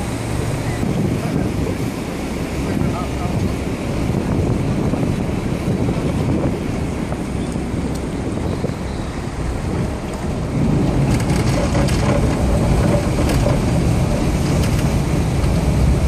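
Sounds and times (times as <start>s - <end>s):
boat engine running: 0.0s - 16.0s
water churning: 0.0s - 16.0s
wind buffeting microphone: 0.0s - 16.0s.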